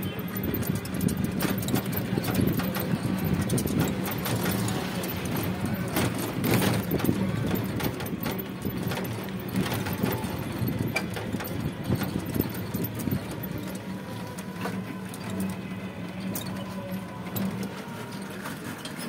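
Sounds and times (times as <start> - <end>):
rickshaw hum: 0.0 - 19.0
vehicle rattles and clicks: 0.0 - 19.0.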